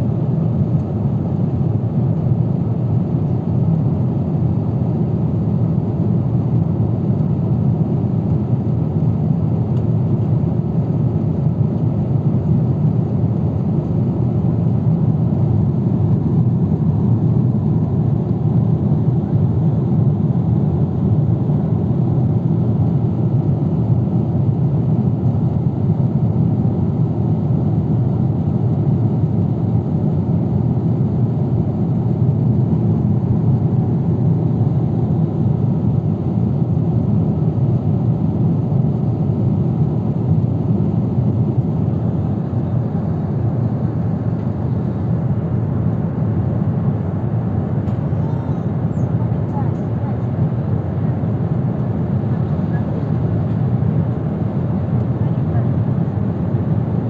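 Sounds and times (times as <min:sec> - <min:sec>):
airplane cabin noise: 0:00.0 - 0:57.0.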